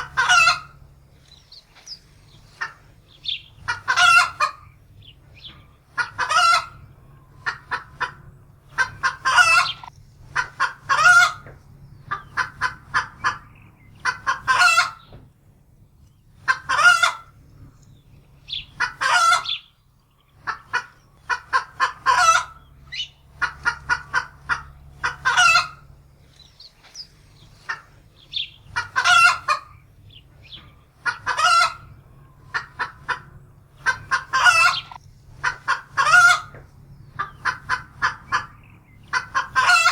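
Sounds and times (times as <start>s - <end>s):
hen cackling and squawking: 0.0s - 15.2s, 16.3s - 39.9s.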